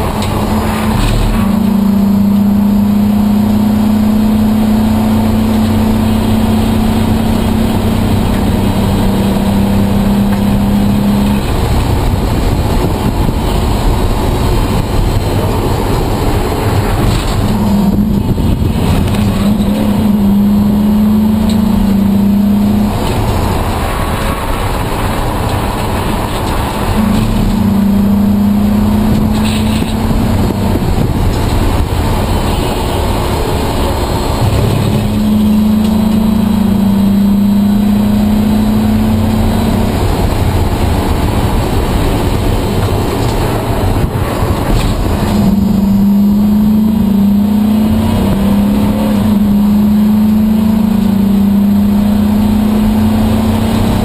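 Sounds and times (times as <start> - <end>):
race car engine revving: 0.0 - 54.0
road and wind roar: 0.0 - 54.0.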